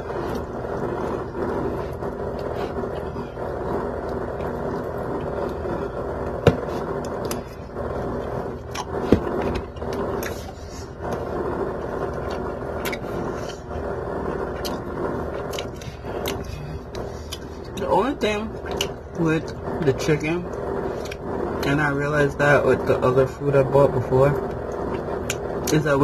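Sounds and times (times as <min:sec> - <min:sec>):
room noise: 0:00.0 - 0:26.0.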